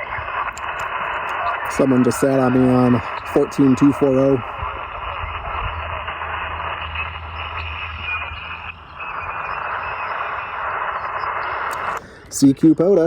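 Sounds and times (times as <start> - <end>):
low hum: 0.0 - 12.0
radio static hiss: 0.0 - 13.0.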